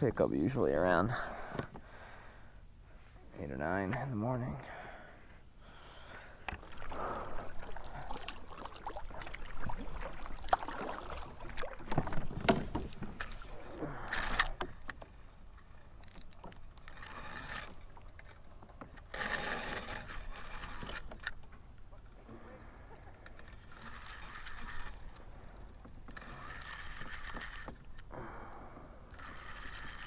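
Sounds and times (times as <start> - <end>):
water sloshing against kayak hull: 5.7 - 30.0.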